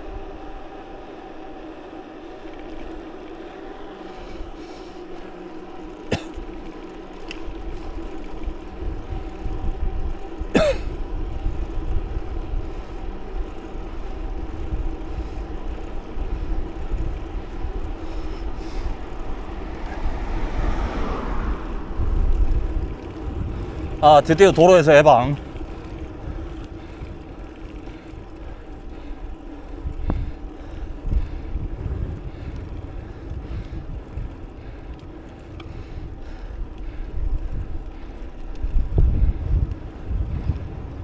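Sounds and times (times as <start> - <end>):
wind rumbling on microphone: 7.2 - 41.0.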